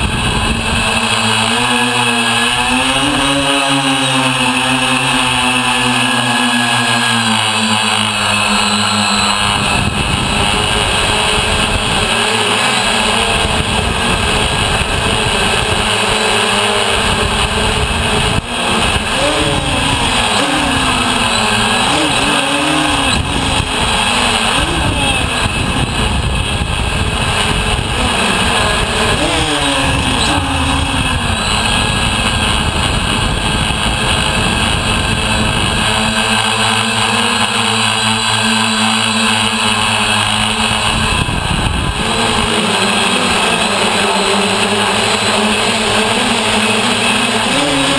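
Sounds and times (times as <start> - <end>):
rushing prop wash and wind: 0.0 - 3.7, 9.3 - 47.9
drone motors whining: 0.0 - 47.9.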